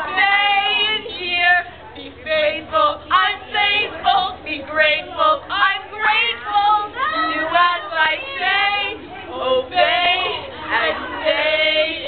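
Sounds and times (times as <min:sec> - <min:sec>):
girls singing: 0:00.0 - 0:12.0.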